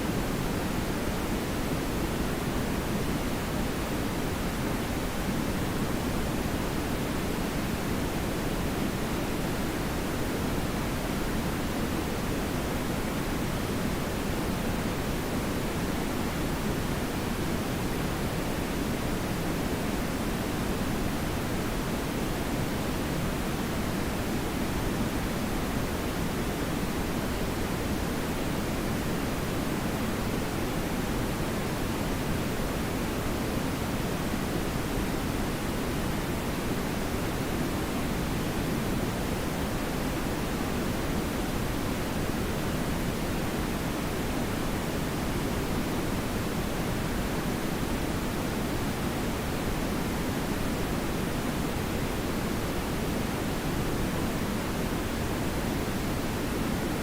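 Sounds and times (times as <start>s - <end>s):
tv static hiss: 0.0s - 57.0s.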